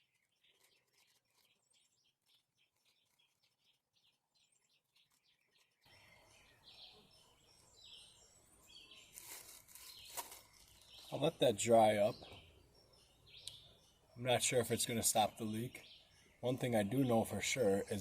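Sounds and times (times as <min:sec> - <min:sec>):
high bird chirps: 0:00.0 - 0:18.0.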